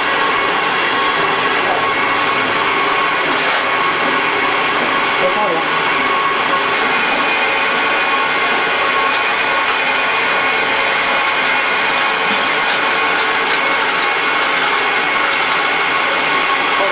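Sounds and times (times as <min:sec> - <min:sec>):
pellet mill running: 0:00.0 - 0:16.9.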